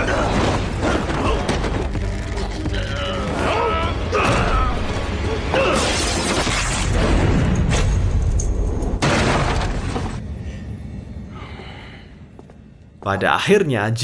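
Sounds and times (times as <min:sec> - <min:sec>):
low rumbling film score: 0:00.0 - 0:14.0.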